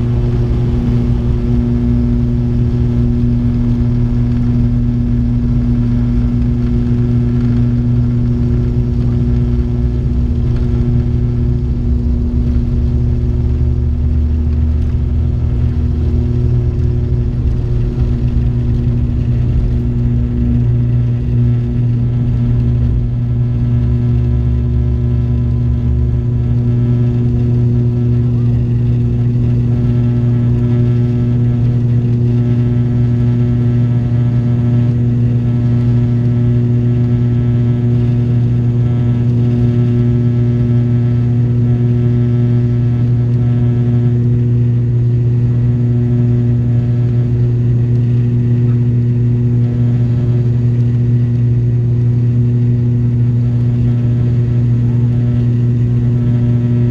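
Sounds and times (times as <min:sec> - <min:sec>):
propeller drone: 0:00.0 - 0:56.9
wheels rumbling on runway: 0:00.0 - 0:56.9.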